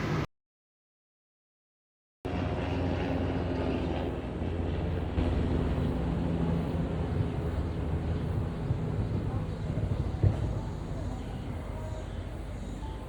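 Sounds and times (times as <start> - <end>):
steady low hum: 2.3 - 13.0.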